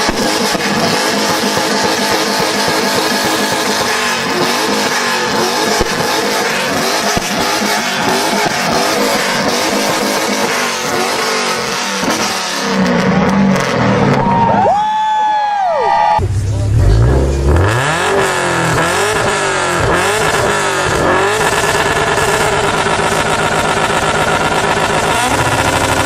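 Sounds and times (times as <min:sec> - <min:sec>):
car engine revving hard: 0:00.0 - 0:14.3, 0:16.3 - 0:26.0.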